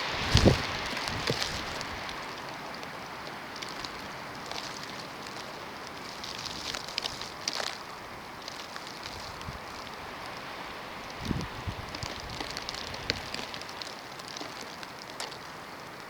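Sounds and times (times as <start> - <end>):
wind and blowing snow: 0.0 - 16.0
faint ticks: 0.4 - 16.0.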